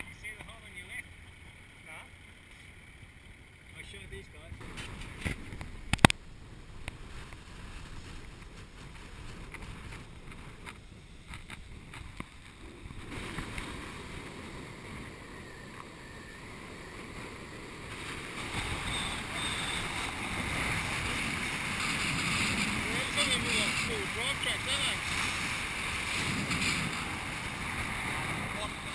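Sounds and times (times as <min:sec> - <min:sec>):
wind on microphone: 0:04.6 - 0:28.9.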